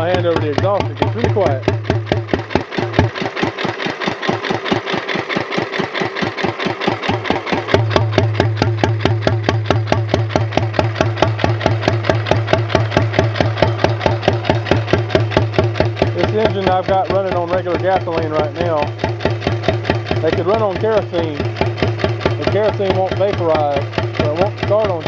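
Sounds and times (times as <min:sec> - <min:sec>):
flywheel engine running: 0:00.0 - 0:25.0.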